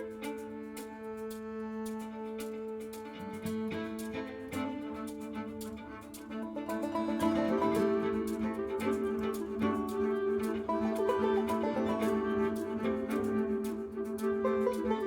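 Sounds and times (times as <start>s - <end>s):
bowed strings music with beat: 0.0s - 15.0s.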